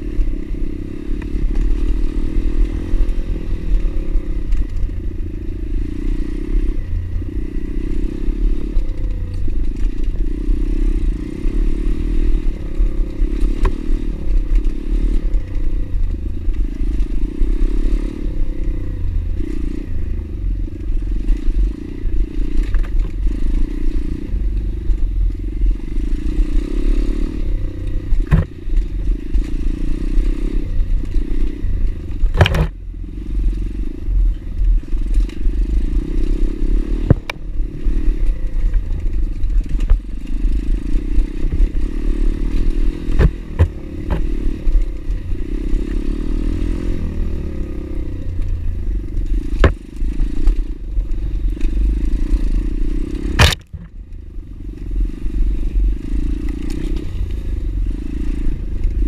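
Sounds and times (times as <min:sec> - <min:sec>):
motorbike engine rumble: 0:00.0 - 0:59.0.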